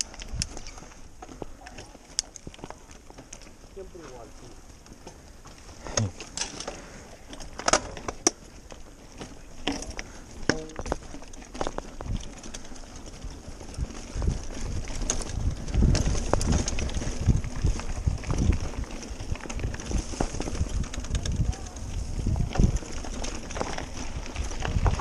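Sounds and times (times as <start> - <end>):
bike rattling and knocking: 0.0 - 25.0.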